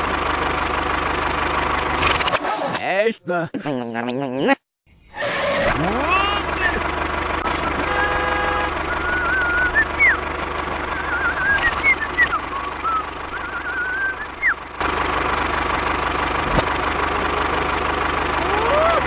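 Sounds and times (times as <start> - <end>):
tractor engine idling: 0.0 - 2.4, 5.7 - 19.0.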